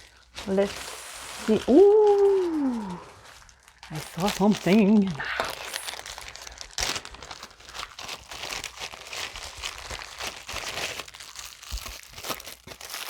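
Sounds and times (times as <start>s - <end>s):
plastic packaging crinkling and tearing: 0.0s - 13.0s.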